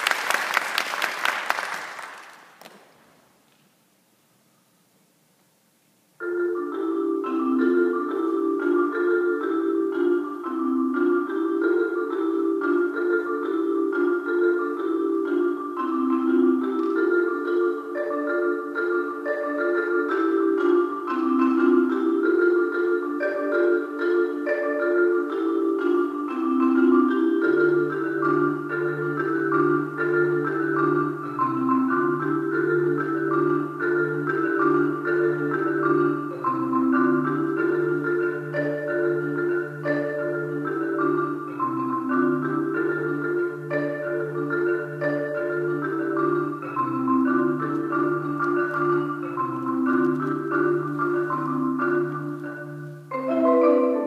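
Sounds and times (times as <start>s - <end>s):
low marimba bass notes: 6.2s - 54.0s
marimba repeated notes: 6.2s - 54.0s.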